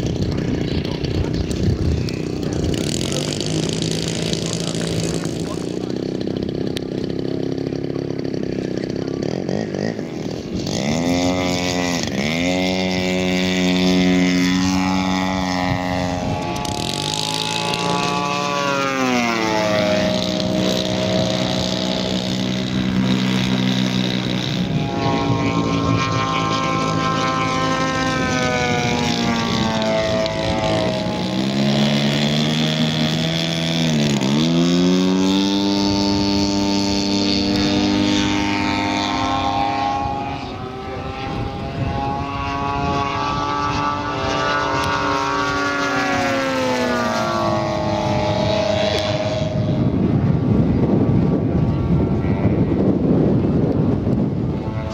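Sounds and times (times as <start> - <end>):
model plane engine revving: 0.0 - 54.9.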